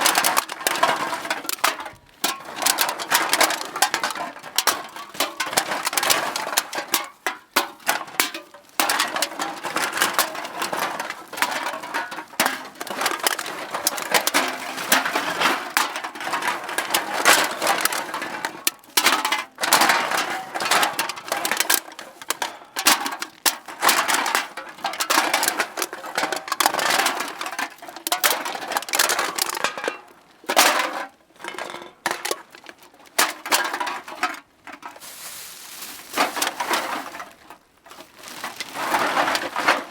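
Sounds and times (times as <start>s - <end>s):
metal cans clattering: 0.0s - 39.9s.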